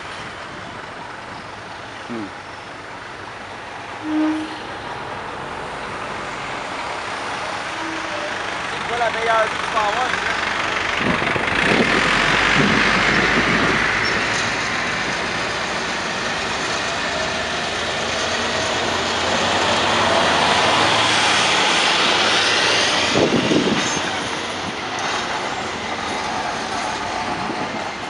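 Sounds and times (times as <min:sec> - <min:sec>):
freight train rumble: 0:00.0 - 0:28.0.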